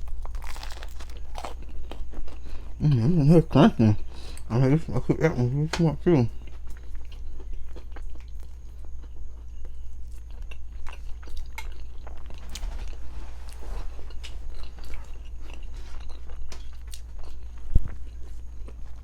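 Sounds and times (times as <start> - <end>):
chewing crunchy biscuit: 0.0 - 19.0
steady low hum: 0.0 - 19.0.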